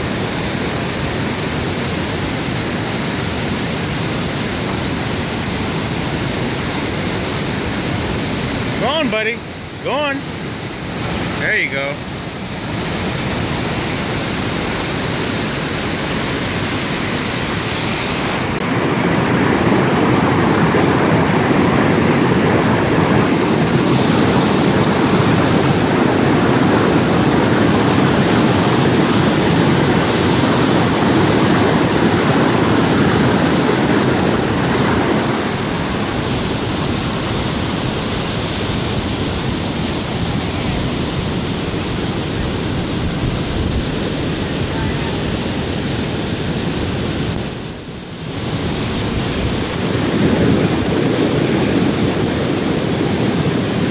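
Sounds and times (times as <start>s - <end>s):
water rushing through a dam: 0.0s - 53.9s.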